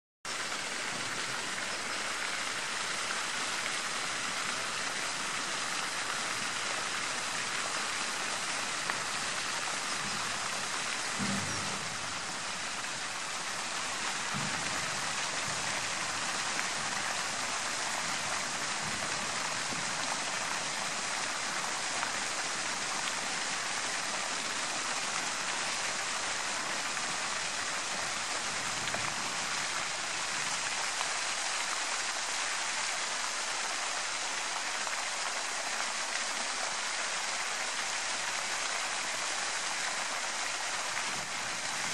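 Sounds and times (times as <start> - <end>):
fountain water splashing: 0.3 - 41.9.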